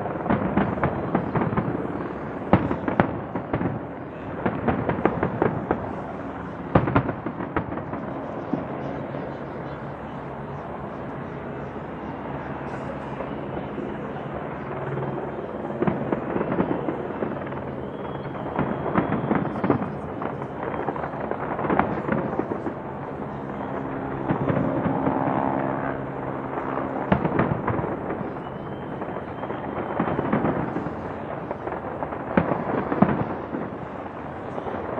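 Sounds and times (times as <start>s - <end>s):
fireworks bangs and crackling: 0.0s - 25.9s, 26.5s - 34.9s
fireworks rumble: 0.0s - 34.9s.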